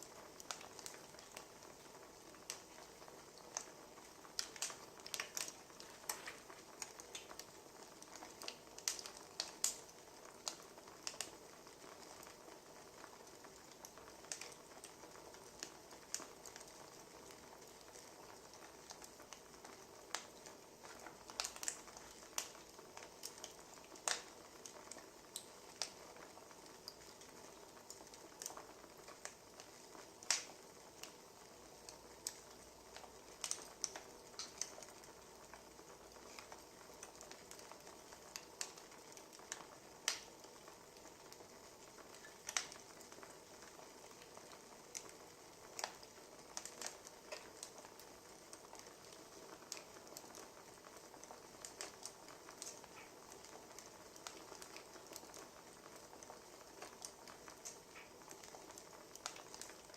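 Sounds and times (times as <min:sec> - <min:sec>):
low steady hiss: 0:00.0 - 0:59.9
wood fire crackling: 0:00.0 - 0:59.9.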